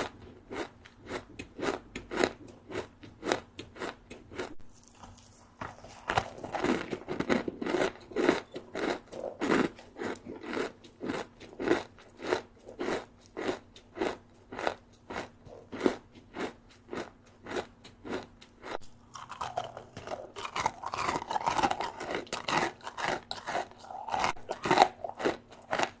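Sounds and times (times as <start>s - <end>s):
crunching of rice snack being chewed: 0.0s - 26.0s.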